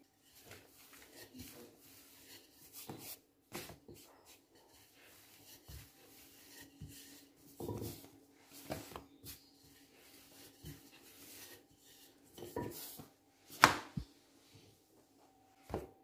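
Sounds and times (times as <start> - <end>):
hands rubbing pastry dough: 0.0 - 14.6.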